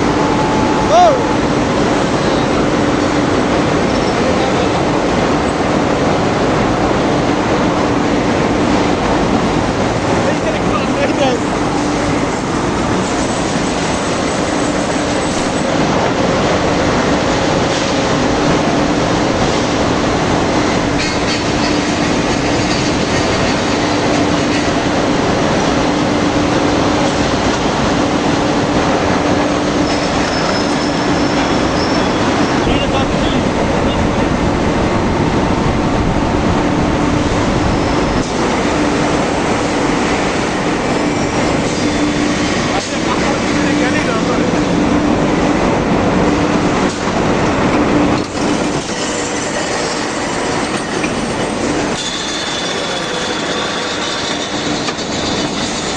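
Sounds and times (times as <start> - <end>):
loud mechanical din: 0.0 - 55.9
rolling mill machinery noise: 0.0 - 55.9.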